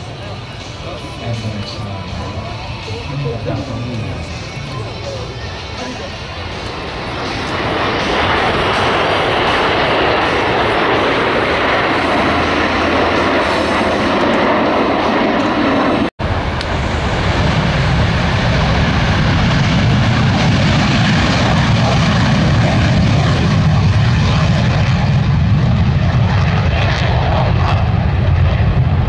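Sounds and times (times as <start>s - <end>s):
aircraft engine roaring: 0.0s - 29.0s.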